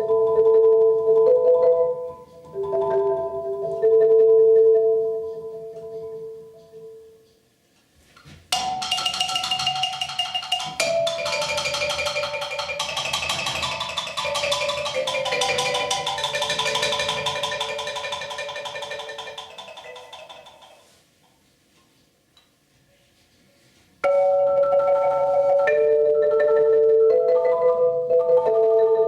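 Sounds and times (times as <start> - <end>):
marimba rolls: 0.0 - 7.0, 8.6 - 21.0, 24.0 - 29.0.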